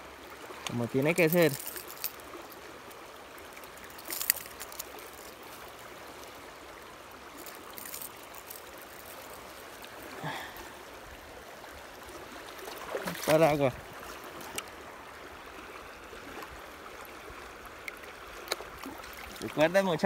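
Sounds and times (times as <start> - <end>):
water rushing over stones: 0.0 - 20.0.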